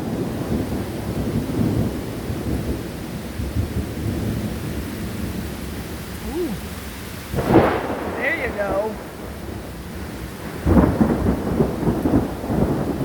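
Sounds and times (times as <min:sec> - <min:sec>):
thunder crack and rumble: 0:00.0 - 0:05.9, 0:07.3 - 0:13.0
steady rain: 0:00.0 - 0:13.0.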